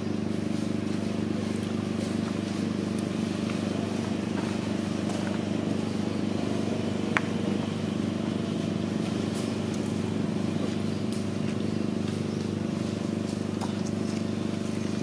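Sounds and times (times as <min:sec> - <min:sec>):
engine running low hum: 0:00.0 - 0:15.0.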